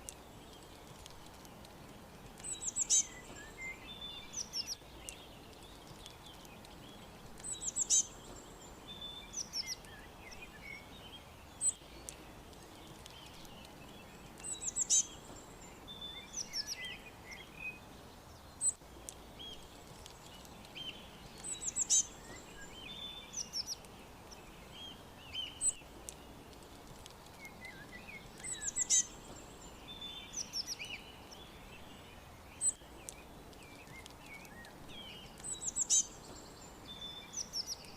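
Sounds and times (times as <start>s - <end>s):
small birds chirping and twittering: 0.0s - 37.9s
soft background hiss: 0.0s - 37.9s.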